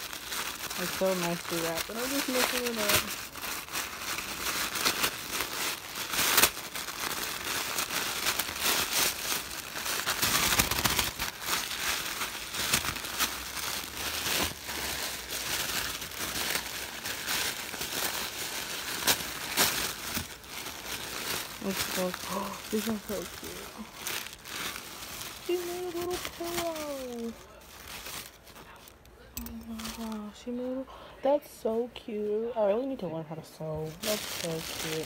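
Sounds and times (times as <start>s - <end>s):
tissue paper crinkling: 0.0s - 30.8s, 31.6s - 35.0s.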